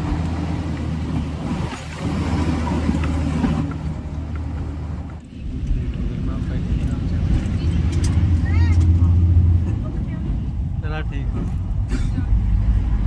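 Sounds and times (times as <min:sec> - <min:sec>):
rail car engine humming: 0:00.0 - 0:13.0.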